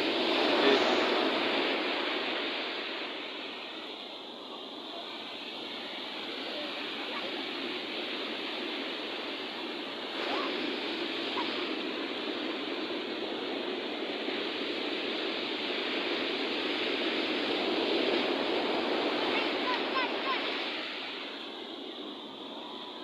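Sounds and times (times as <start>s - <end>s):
ocean surf washing onto beach: 0.0s - 23.0s.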